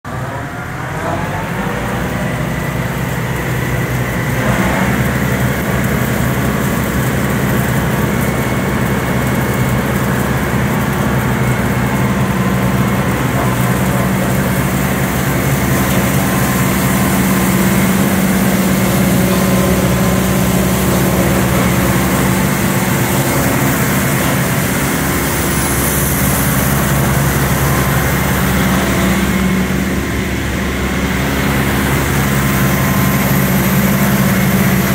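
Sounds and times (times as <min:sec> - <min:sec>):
tractor and straw chopper drone: 0:00.1 - 0:34.9.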